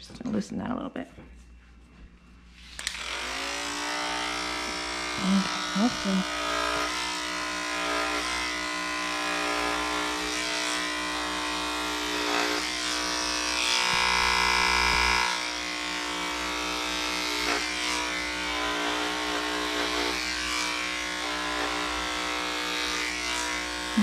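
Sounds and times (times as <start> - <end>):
electric clippers buzzing: 2.5 - 24.0.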